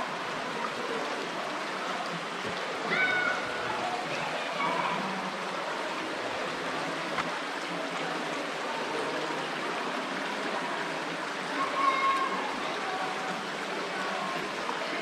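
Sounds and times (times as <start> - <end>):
creek water running over rocks: 0.0 - 15.0.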